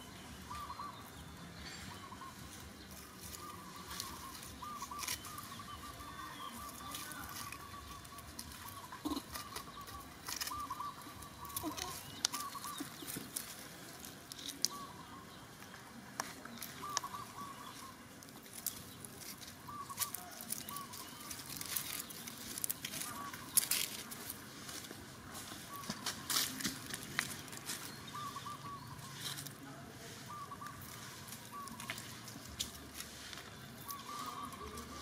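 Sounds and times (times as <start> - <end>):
dry leaves crackling and rustling: 0.1 - 35.0.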